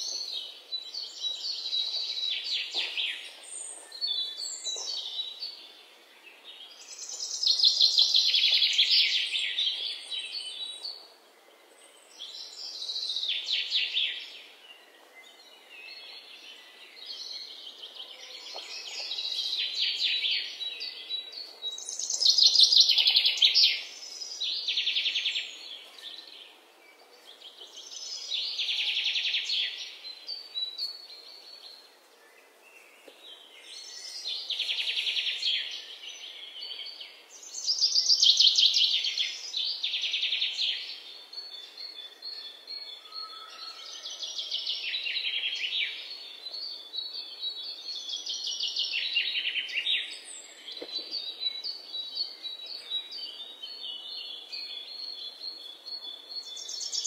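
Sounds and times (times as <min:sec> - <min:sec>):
birds singing trills: 0:00.0 - 0:57.0.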